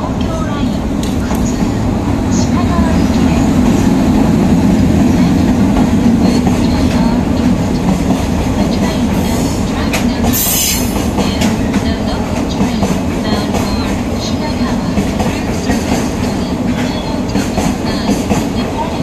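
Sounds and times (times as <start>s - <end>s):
freight train passing: 0.0s - 19.0s.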